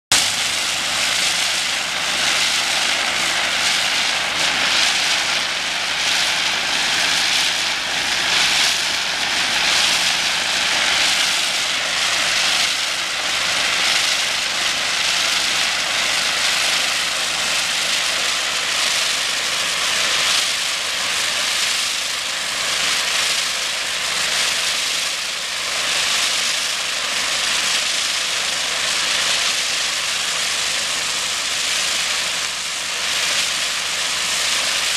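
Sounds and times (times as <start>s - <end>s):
high-pressure water jet hissing: 0.1s - 34.9s.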